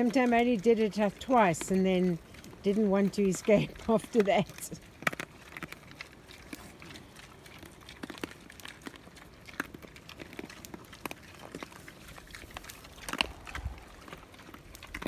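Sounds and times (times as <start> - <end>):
pigs chewing dry feed: 0.0 - 15.0.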